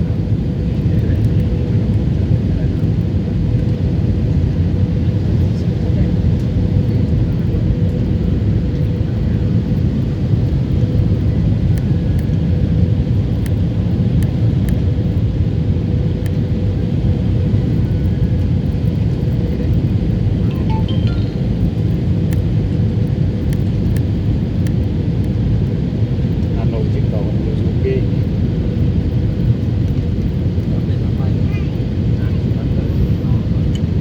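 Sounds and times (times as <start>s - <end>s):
airliner cabin rumble: 0.0s - 34.0s.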